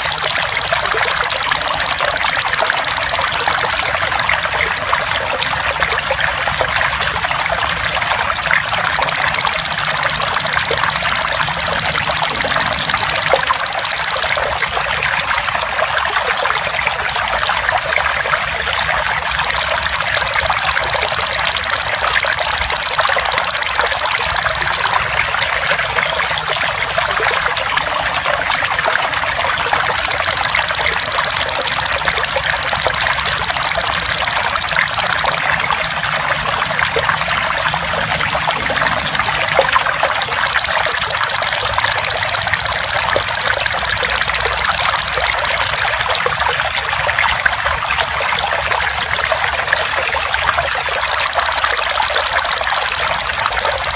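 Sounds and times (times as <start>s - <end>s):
trickling water: 0.0s - 53.9s.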